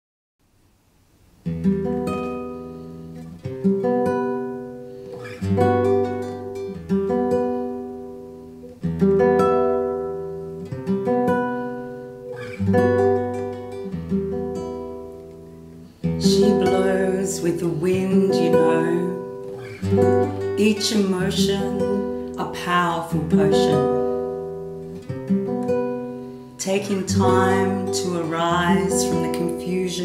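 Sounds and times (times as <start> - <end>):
classical guitar chords: 1.1 - 30.0.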